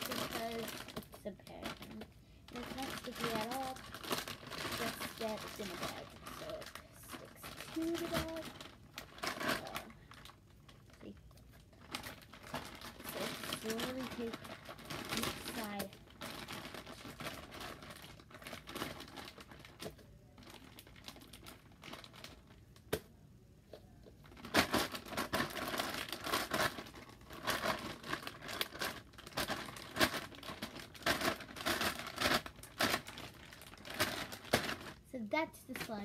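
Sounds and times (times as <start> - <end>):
plastic bag crinkling: 0.0 - 22.9, 24.1 - 36.0.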